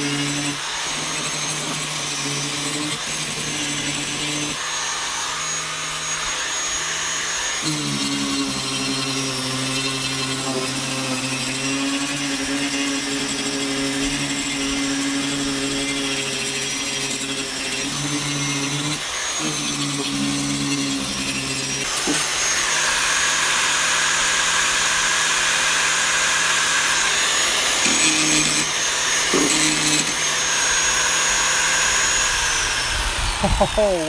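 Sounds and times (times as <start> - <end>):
rotary tool grinding: 0.0 - 34.0.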